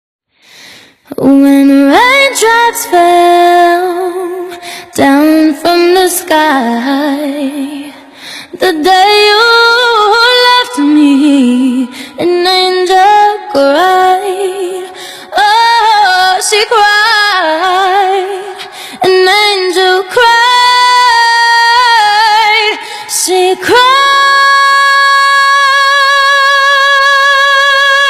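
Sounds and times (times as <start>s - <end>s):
woman singing a cappella: 1.0s - 28.0s.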